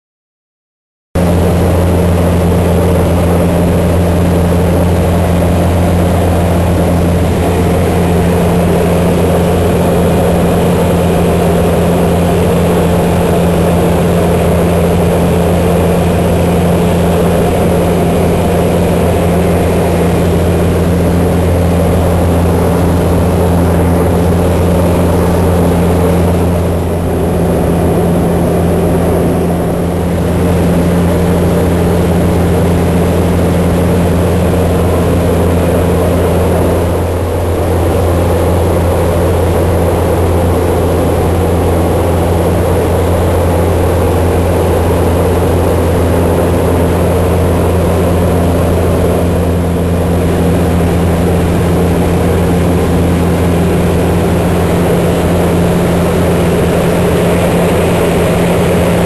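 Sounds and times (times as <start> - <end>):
turboprop engine droning: 1.2 - 59.0.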